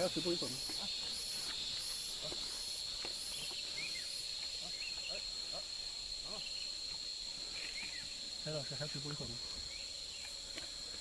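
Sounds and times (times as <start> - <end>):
insects singing: 0.0 - 11.0.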